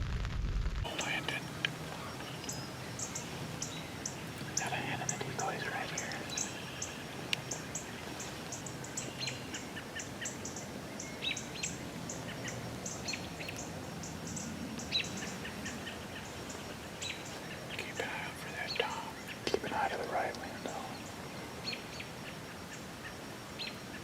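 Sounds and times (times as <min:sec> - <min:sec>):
songbirds chirping: 0:00.9 - 0:24.0.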